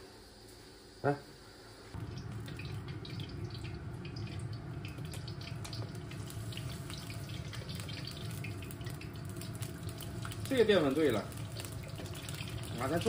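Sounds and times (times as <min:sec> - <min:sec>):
fish frying in hot oil: 0:01.9 - 0:13.0.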